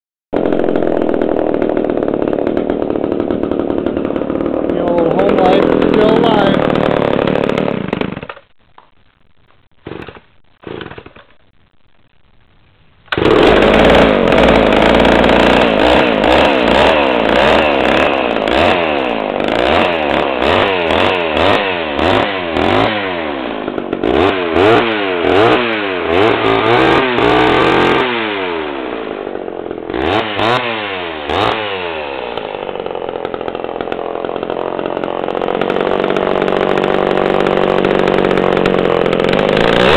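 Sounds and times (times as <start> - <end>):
chainsaw revving: 0.4 - 8.5, 9.8 - 11.3, 13.1 - 39.9.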